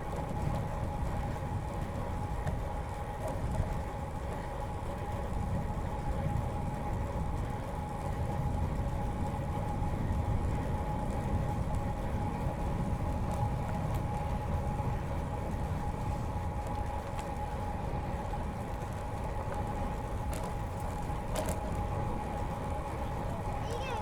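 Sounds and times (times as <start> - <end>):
bike tyres rolling on path: 0.0 - 24.0
wind rumble: 0.0 - 24.0.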